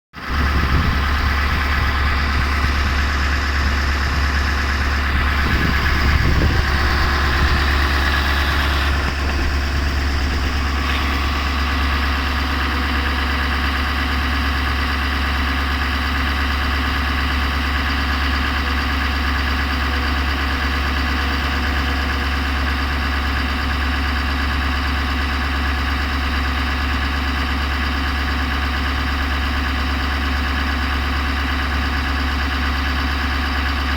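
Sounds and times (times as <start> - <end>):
pickup truck engine idling: 0.2 - 33.9.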